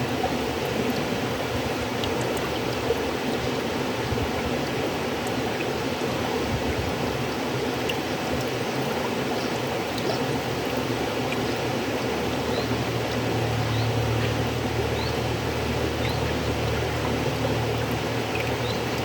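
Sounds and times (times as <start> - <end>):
river water flowing: 0.0 - 19.0
small splashes and trickles: 0.0 - 19.0.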